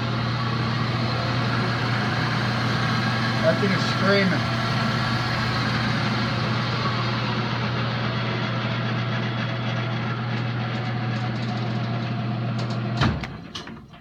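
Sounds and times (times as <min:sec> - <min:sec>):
metal lathe whirring: 0:00.0 - 0:13.0.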